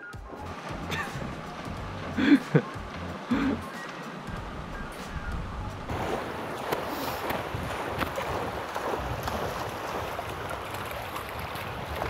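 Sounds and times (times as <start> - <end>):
water sloshing and splashing: 0.1 - 12.0
wind buffeting microphone: 0.4 - 12.0.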